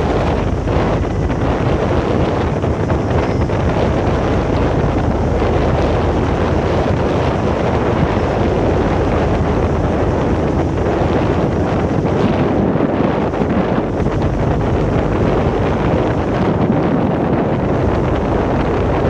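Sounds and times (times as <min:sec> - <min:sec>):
ship engines droning: 0:00.0 - 0:19.0
wind blowing across microphone: 0:00.0 - 0:19.0.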